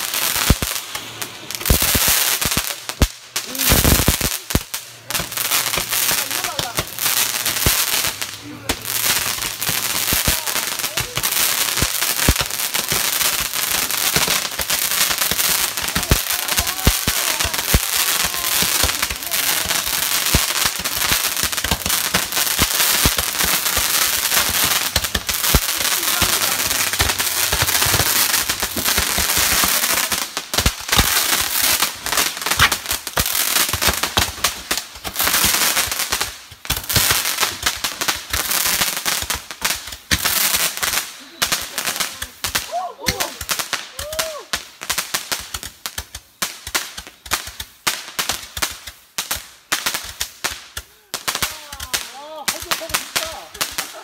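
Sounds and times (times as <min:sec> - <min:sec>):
fireworks hissing and crackling: 0:00.0 - 0:54.0.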